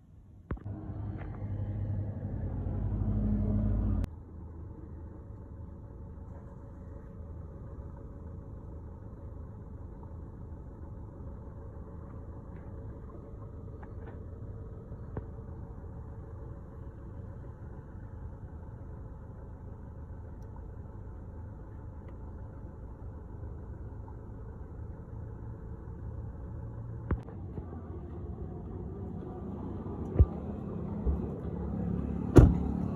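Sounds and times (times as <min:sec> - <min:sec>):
engine running: 0:00.5 - 0:32.9.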